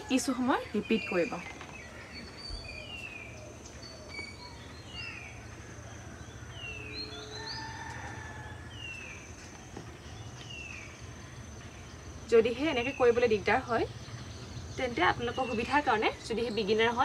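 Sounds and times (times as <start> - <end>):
thin insect whine: 0.0 - 17.0.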